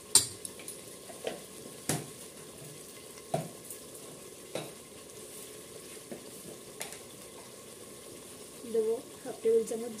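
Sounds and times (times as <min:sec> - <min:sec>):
spice paste sizzling in oil: 0:00.0 - 0:10.0.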